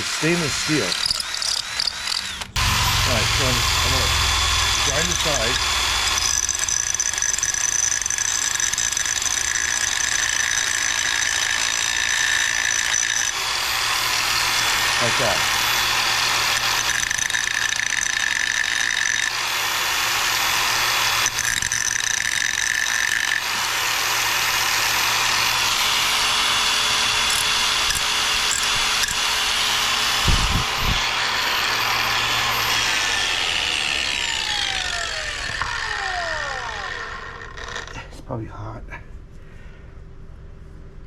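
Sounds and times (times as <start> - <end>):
motor winding down: 0.0 - 11.9, 12.5 - 38.0
power grinder grinding metal: 0.0 - 38.1.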